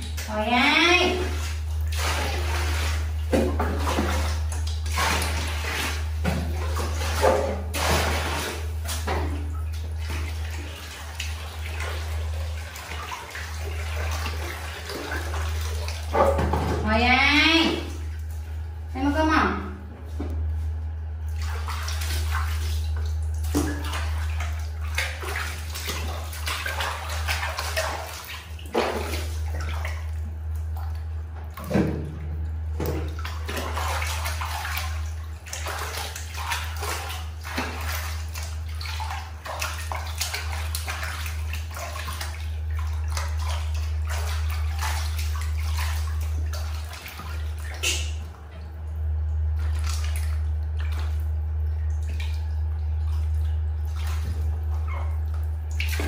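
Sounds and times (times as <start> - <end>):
steady low hum: 0.0 - 56.0
water sloshing and splashing: 0.0 - 56.0.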